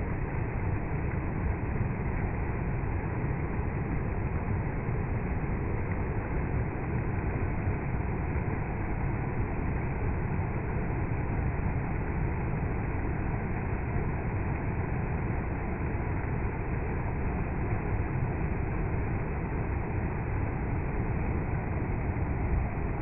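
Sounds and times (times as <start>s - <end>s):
flowing water rushing: 0.1s - 23.0s.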